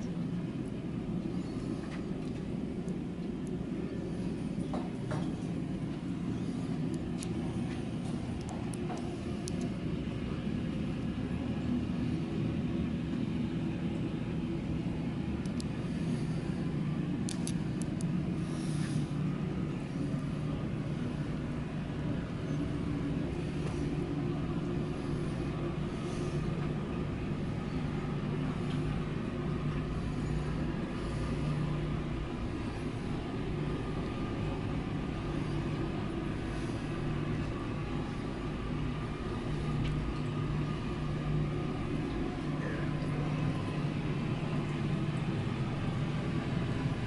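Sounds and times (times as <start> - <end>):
faint rumble: 0.0 - 47.0
steady low hum: 0.0 - 47.0.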